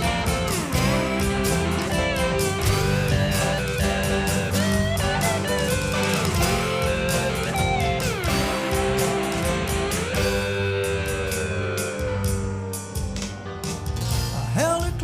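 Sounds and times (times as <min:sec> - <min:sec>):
lead guitar bending notes: 0:00.0 - 0:13.6
bass guitar: 0:00.0 - 0:15.0
drum beat with cymbals: 0:00.0 - 0:15.0.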